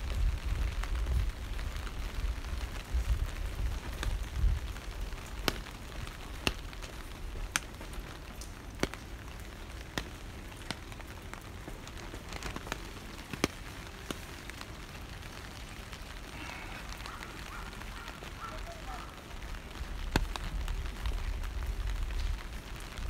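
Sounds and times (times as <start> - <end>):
rain on wet pavement: 0.0 - 23.0.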